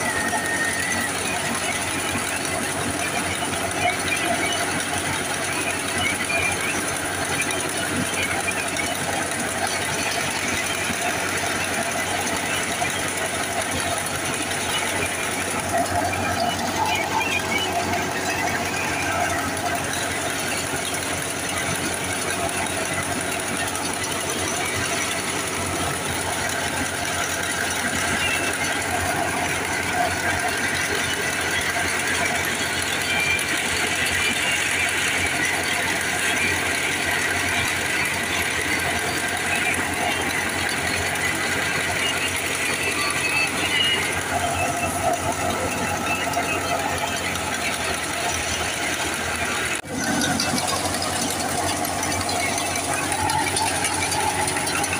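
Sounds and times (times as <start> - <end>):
machine rattle: 0.0 - 54.9
tractor engine: 0.0 - 54.9.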